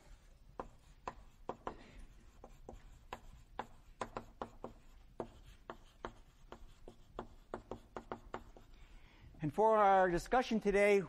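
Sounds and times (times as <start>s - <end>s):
chalk taps and strokes on board: 0.0s - 8.9s.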